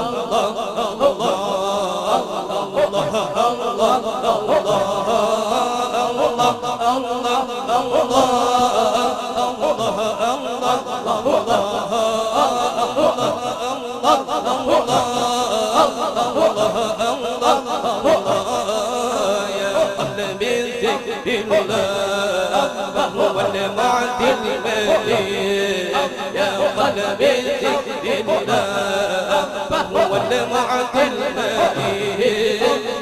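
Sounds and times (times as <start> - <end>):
lead voice chanting: 0.0 - 33.0
men chanting into microphones: 0.0 - 33.0.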